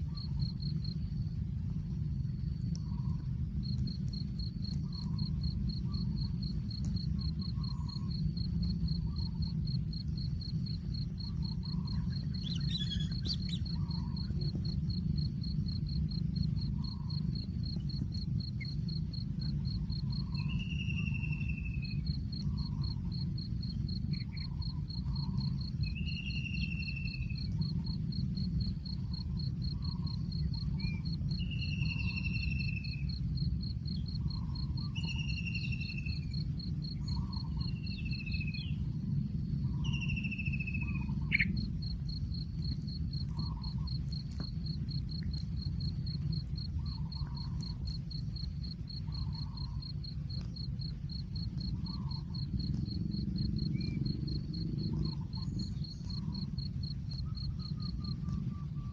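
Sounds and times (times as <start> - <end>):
cricket trilling: 0.0 - 58.9
low rumble: 0.0 - 58.9.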